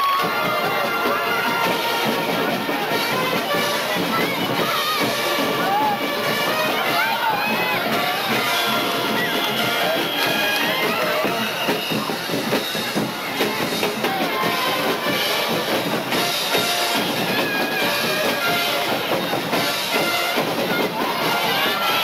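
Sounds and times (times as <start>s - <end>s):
music with drums: 0.0s - 22.0s.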